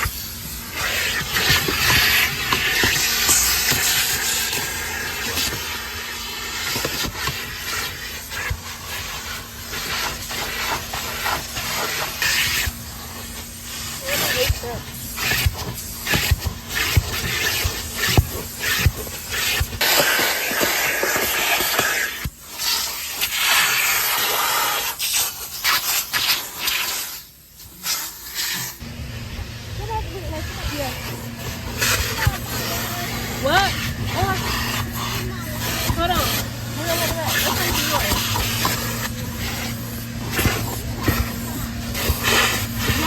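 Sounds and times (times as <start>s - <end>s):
high-pressure water spray hissing: 0.0s - 43.0s.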